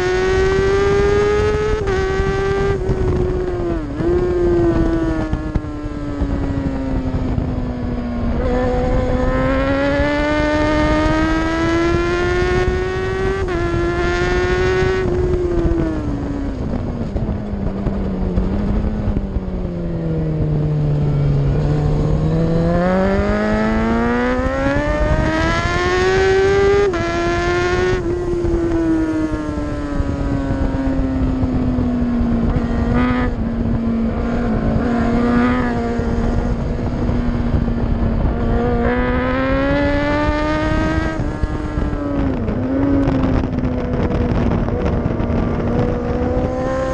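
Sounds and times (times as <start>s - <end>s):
racing motorcycle engine: 0.0s - 46.9s.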